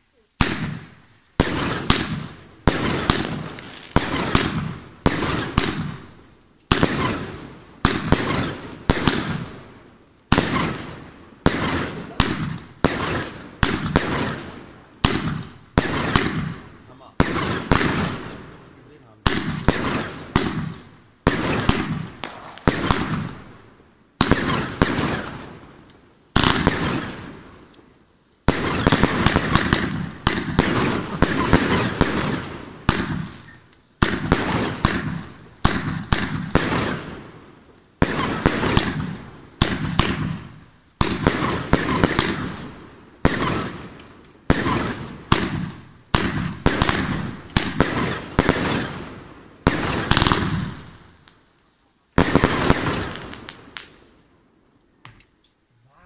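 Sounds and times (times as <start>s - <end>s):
firework bangs with crackling: 0.4s - 27.7s, 28.4s - 54.1s.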